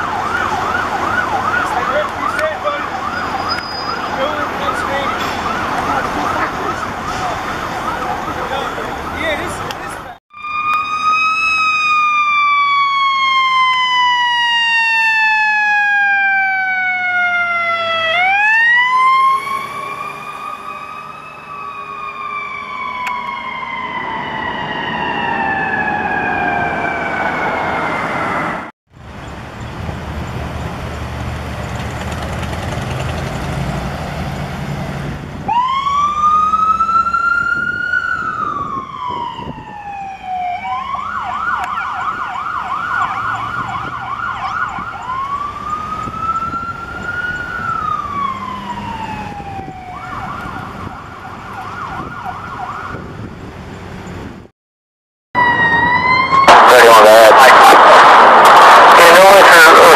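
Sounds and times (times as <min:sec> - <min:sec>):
electronic siren wail and yelp: 0:00.0 - 0:28.7, 0:35.5 - 0:53.1, 0:55.4 - 0:59.9
fire engine siren wailing: 0:00.0 - 0:28.7, 0:34.3 - 0:53.4, 0:55.4 - 0:59.9
engine and traffic rumble: 0:00.0 - 0:54.5, 0:55.4 - 0:59.9.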